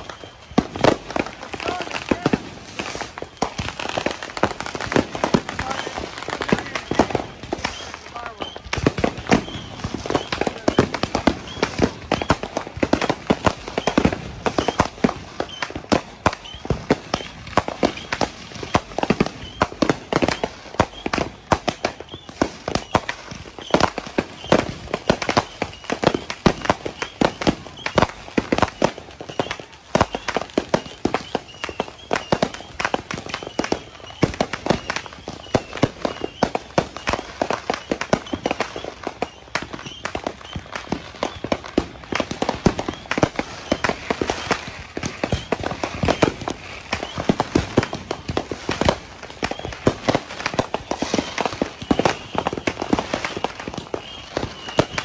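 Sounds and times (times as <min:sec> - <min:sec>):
fireworks and firecrackers banging: 0:00.0 - 0:55.0.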